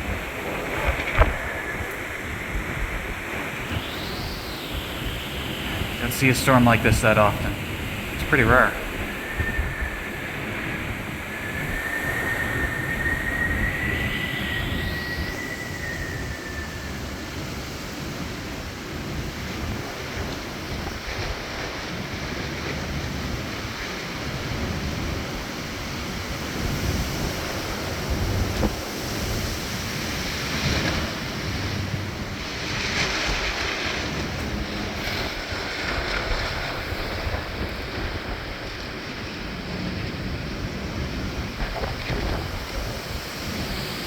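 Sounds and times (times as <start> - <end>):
strong wind gusting: 0.0 - 44.0
wind buffeting microphone: 0.0 - 44.0.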